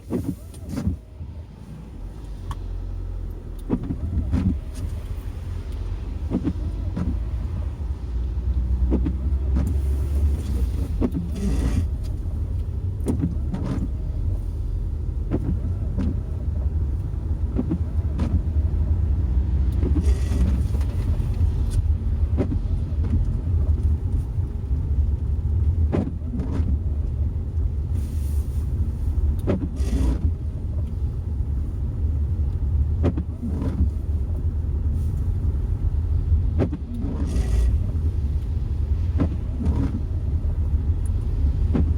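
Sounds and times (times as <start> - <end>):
car engine and tyres rumbling: 0.0 - 41.9.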